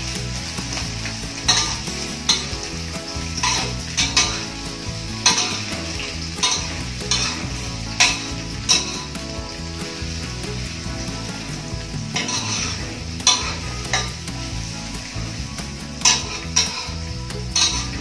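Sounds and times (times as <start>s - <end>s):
shallots sizzling in oil: 0.0s - 18.0s
spatula scraping a wok: 0.0s - 18.0s.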